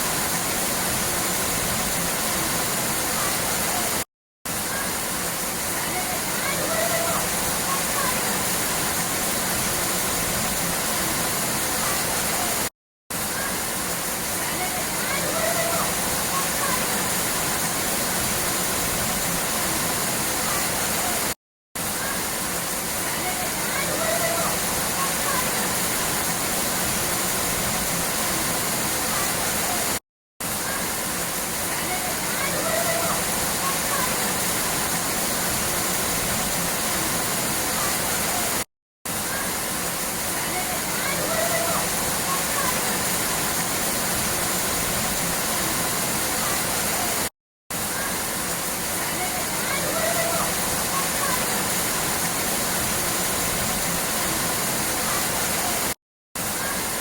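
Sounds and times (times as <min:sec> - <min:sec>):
rushing flowing water: 0:00.0 - 0:57.0.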